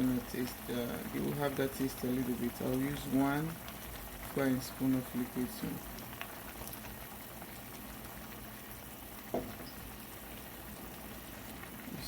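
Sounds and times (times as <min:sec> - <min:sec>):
pot bubbling on stove: 0:00.0 - 0:12.0.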